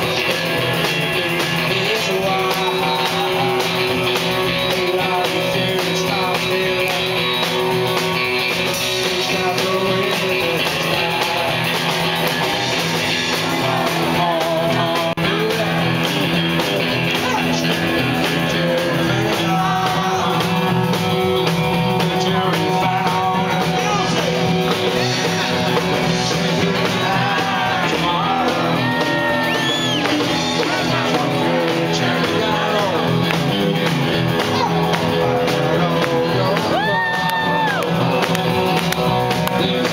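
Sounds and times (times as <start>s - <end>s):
drums: 0.0s - 39.9s
electric guitar: 0.0s - 39.9s
man singing: 0.0s - 39.9s.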